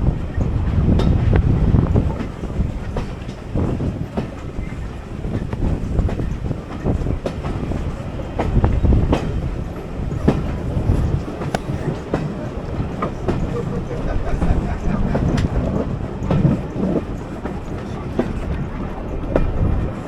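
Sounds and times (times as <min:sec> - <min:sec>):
railway carriage rumble: 0:00.0 - 0:20.0.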